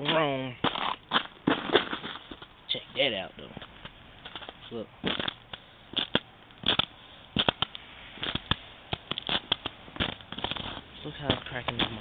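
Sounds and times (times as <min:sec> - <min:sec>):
ice crust crunching underfoot: 0:00.0 - 0:12.0.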